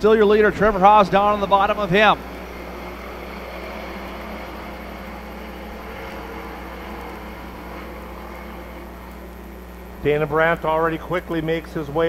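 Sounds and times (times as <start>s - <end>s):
drone of race car engines: 0.0s - 12.0s.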